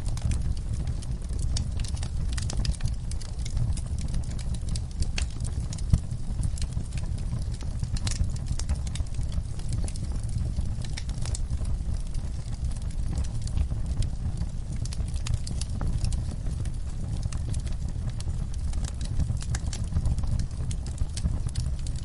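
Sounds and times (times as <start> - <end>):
fire low rumble: 0.0 - 22.0
wood fire crackling and popping: 0.0 - 22.0.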